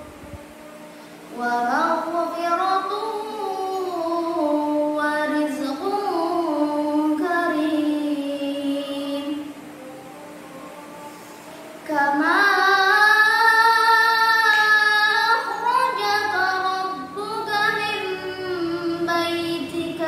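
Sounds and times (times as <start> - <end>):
girl chanting melodically: 0.0 - 20.0.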